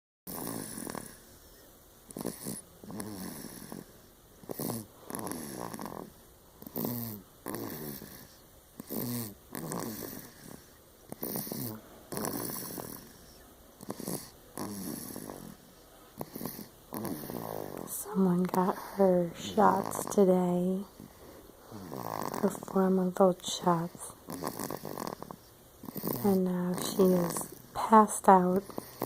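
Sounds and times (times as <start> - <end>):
baby snoring: 0.3 - 29.0.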